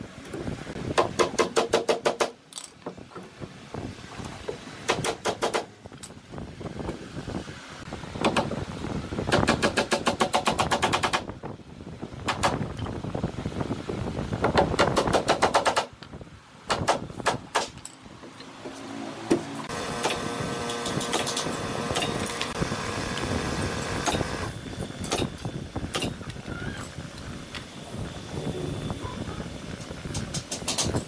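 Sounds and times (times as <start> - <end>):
steady multi-tone hum: 0.0 - 31.0.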